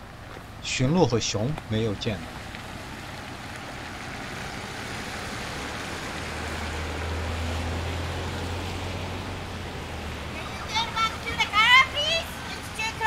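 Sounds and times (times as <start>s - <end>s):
vehicle passing: 1.4s - 13.0s.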